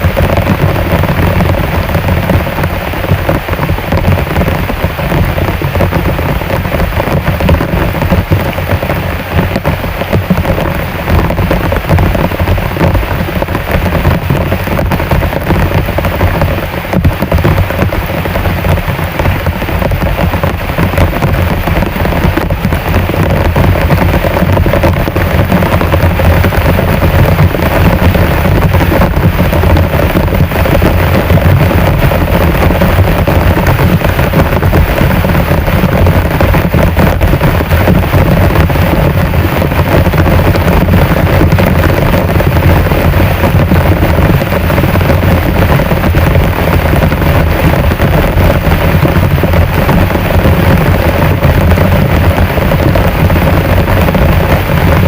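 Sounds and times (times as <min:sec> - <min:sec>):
heavy rain pouring: 0:00.0 - 0:55.0
low rumble: 0:00.0 - 0:55.0.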